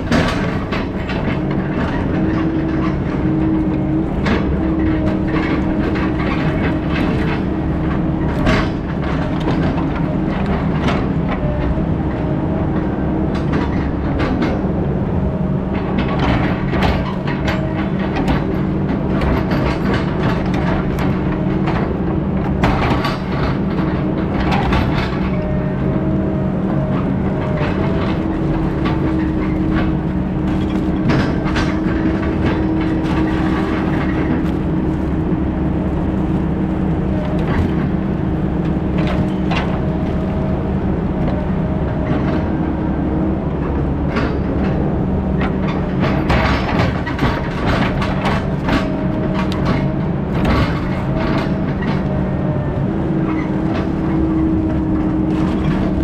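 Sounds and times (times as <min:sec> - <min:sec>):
clanks and rattles: 0:00.0 - 0:56.0
heavy diesel engine running: 0:00.0 - 0:56.0.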